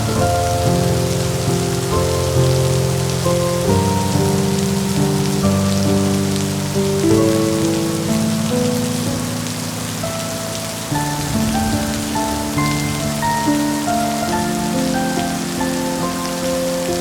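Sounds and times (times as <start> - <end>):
soft slow music: 0.0 - 17.0
steady rain falling: 0.0 - 17.0.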